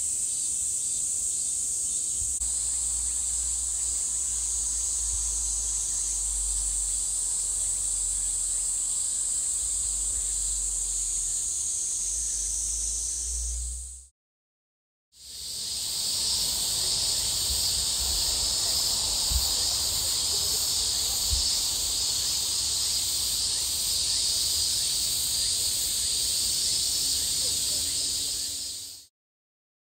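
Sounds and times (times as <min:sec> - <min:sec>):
insects chirping: 0:00.0 - 0:14.1, 0:15.2 - 0:29.1.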